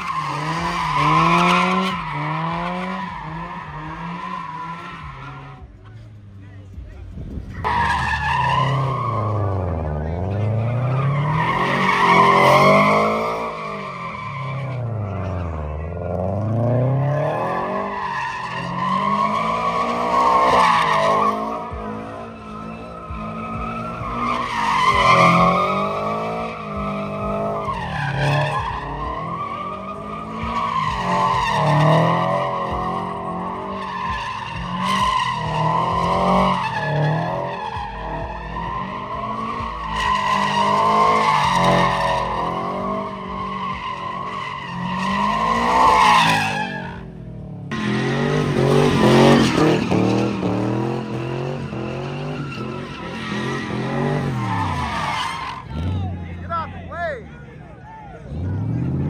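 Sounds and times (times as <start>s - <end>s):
car engine revving: 0.0s - 59.0s
tyres squealing: 7.7s - 57.0s.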